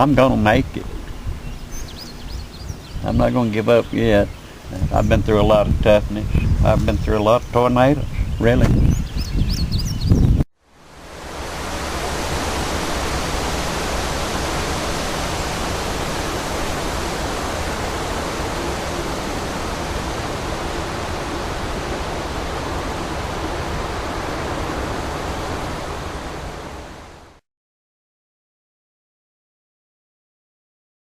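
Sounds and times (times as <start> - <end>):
steady rushing hiss: 0.0 - 8.4, 10.7 - 27.4.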